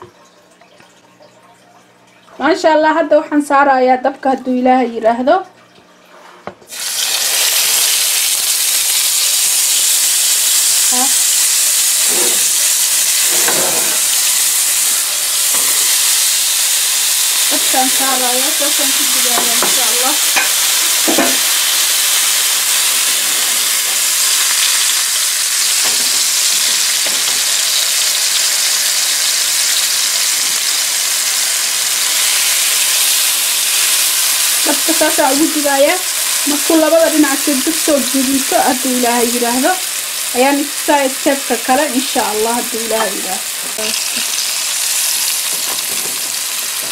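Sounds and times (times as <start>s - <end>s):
steaks sizzling in a pan: 6.7s - 46.9s.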